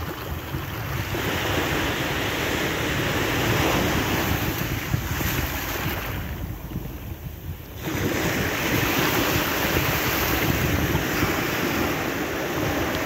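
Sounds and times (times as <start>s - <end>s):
small waves breaking on sand: 0.0s - 13.0s
wind rumbling on microphone: 0.0s - 13.0s.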